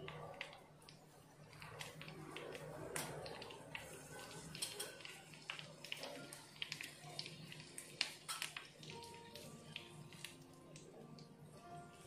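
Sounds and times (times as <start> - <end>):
chillies sizzling in hot oil: 0.0 - 12.0
oil crackling and popping: 0.0 - 12.0.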